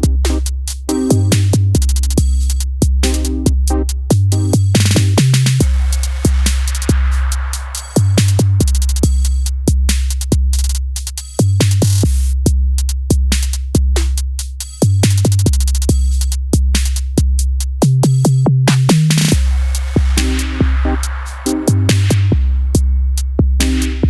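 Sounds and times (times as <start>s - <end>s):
electronic music with deep bass: 0.0s - 12.5s, 13.3s - 17.2s, 17.8s - 24.0s.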